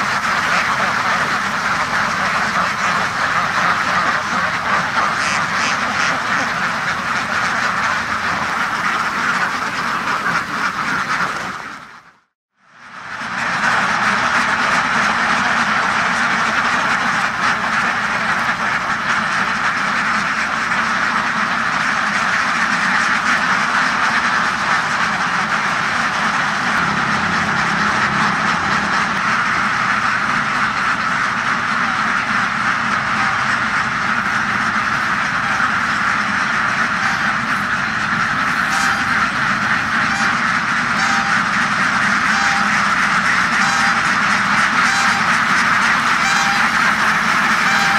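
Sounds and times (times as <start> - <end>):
flock of ducks quacking: 0.0 - 47.9.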